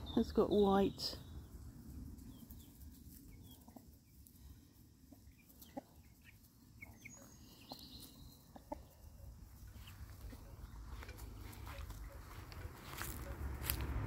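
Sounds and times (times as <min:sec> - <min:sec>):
chicks peeping: 0:00.0 - 0:13.8
chickens clucking: 0:00.2 - 0:13.5.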